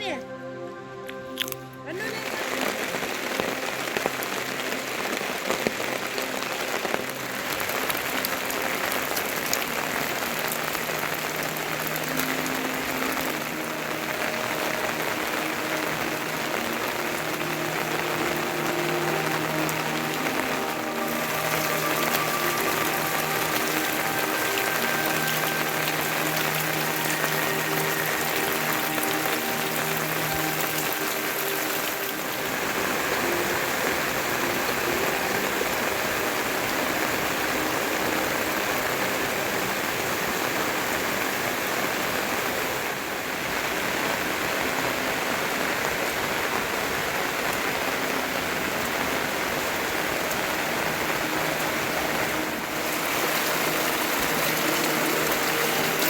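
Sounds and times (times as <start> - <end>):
background music with held notes: 0.0 - 56.0
rushing water: 0.9 - 56.0.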